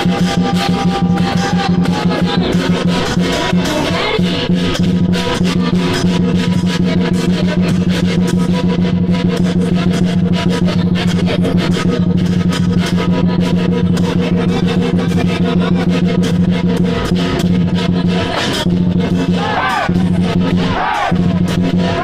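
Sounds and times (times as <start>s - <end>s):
drum beating: 0.0s - 22.0s
rapid cymbal strikes: 0.0s - 22.0s.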